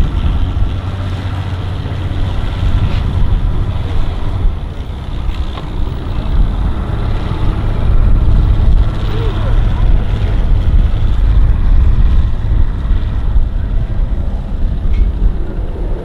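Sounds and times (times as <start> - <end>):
outboard motors idling: 0.0 - 16.0
wind buffeting microphone: 0.0 - 16.0.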